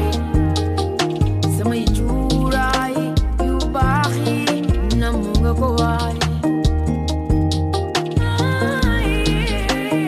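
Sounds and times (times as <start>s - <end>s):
song with deep bass and beat: 0.0s - 10.0s.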